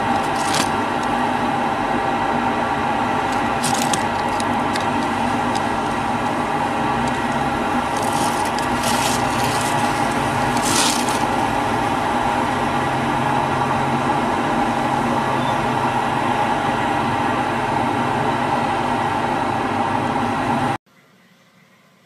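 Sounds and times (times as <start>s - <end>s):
machine humming: 0.0s - 21.9s.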